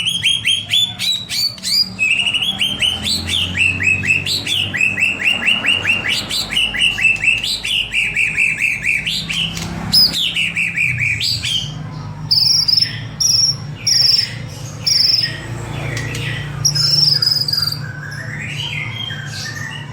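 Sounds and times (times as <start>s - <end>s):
bird singing: 0.0s - 19.9s.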